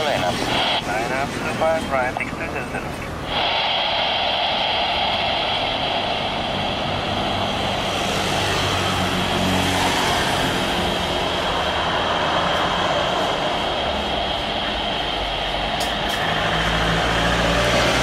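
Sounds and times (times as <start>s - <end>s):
jet engine rush with high whine: 0.0s - 18.0s.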